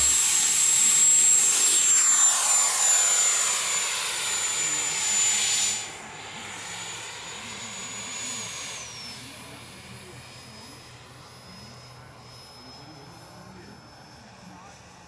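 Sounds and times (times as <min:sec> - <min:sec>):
jet turbine whine: 0:00.0 - 0:15.0.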